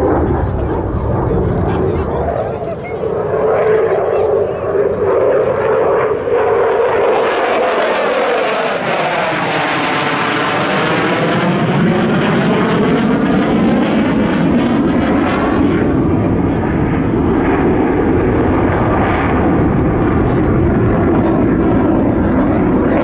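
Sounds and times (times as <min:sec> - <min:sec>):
jet engines roaring on afterburner: 0:00.0 - 0:23.0.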